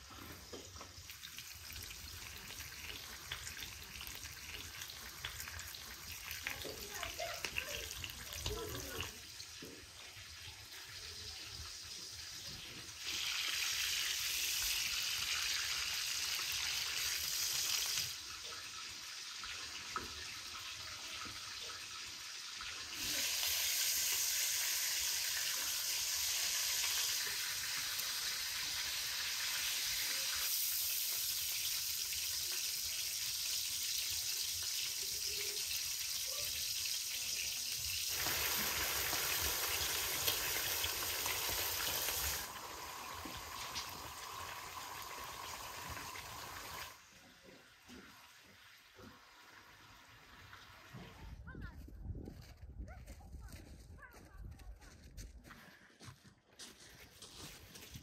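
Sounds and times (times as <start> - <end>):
food sizzling in a pot: 0.0 - 51.0.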